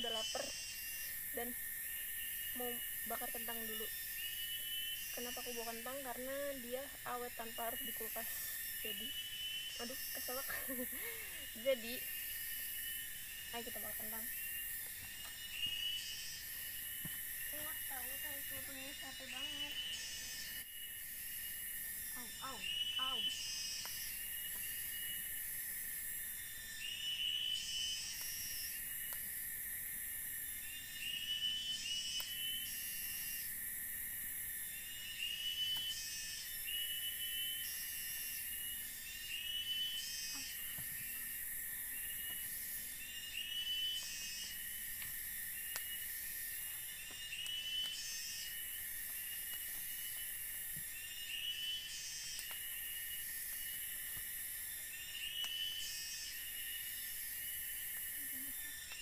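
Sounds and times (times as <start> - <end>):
insects buzzing shrilly: 0.0 - 59.0
steady thin insect whine: 0.0 - 59.0.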